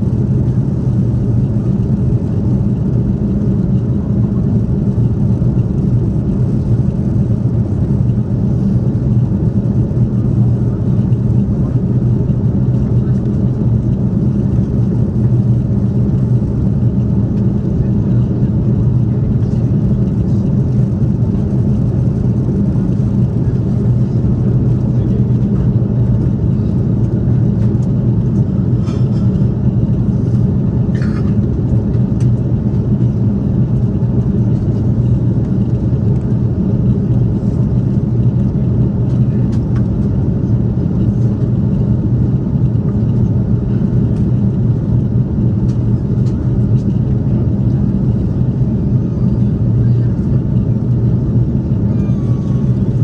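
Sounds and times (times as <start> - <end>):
airliner cabin drone: 0.0 - 53.0.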